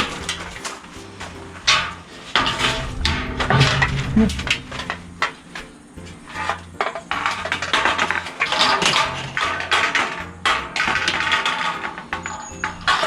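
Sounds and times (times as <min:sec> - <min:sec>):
metallic clanks on sheet steel: 0:00.0 - 0:13.0
soft background music: 0:00.0 - 0:13.0.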